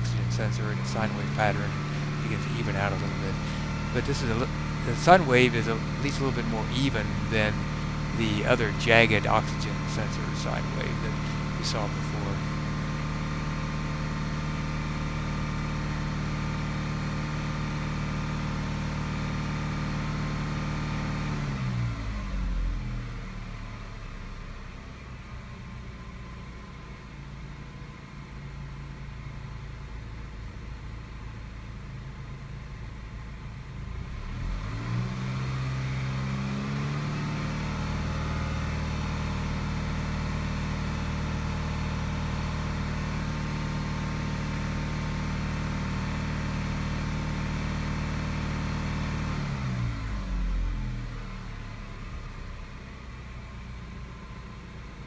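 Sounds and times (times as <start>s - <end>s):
car engine running and idling: 0.0s - 55.0s.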